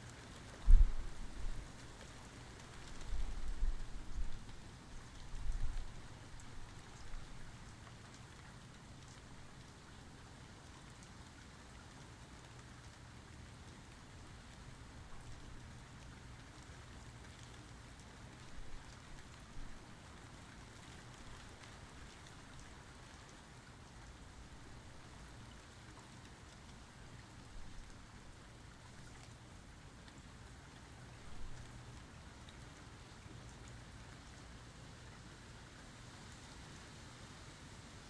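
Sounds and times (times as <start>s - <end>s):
rain spatters: 0.0s - 38.0s
steady rain falling: 0.0s - 38.0s.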